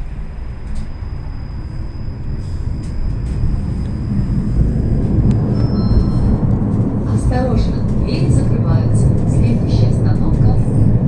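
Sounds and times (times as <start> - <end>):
tram rumbling on track: 0.0 - 11.0
thin high whine: 0.4 - 9.6.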